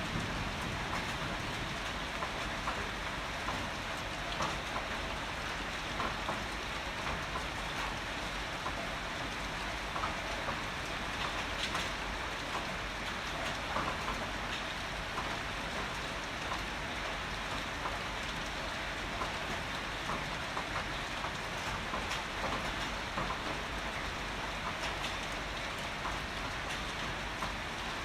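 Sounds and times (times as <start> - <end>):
heavy rain falling: 0.0 - 28.0
raindrops ticking on hard surface: 0.0 - 28.0.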